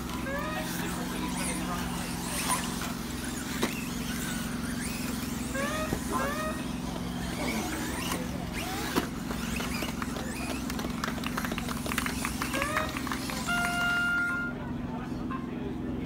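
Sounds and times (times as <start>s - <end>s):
electric toy car motors whining: 0.0s - 14.6s.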